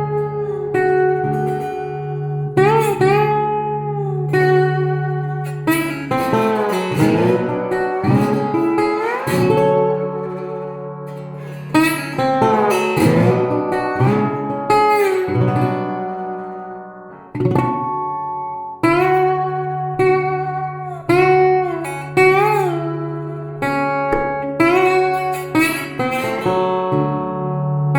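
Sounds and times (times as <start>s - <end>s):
slide guitar playing: 0.0s - 27.9s.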